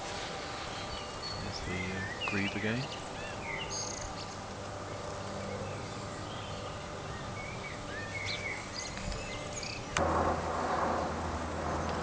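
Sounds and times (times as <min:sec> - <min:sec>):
songbirds chirping: 0:00.0 - 0:10.0
low outdoor background hum: 0:00.0 - 0:12.0.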